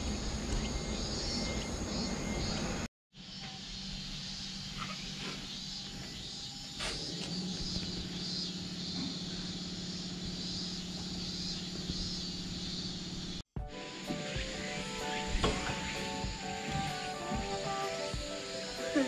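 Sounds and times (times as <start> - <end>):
insects buzzing: 0.0 - 19.0
steady low hum: 0.0 - 19.0.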